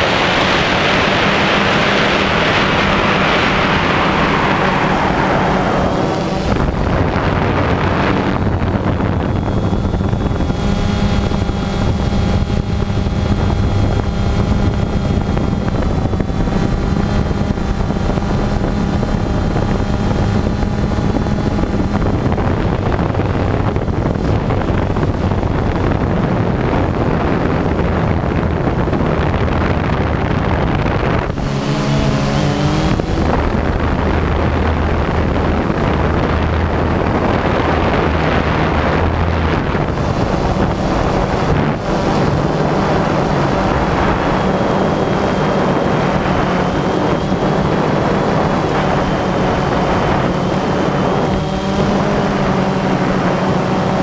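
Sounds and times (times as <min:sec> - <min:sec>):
drone motors humming: 0:00.0 - 0:54.0
wind on microphone: 0:00.0 - 0:54.0.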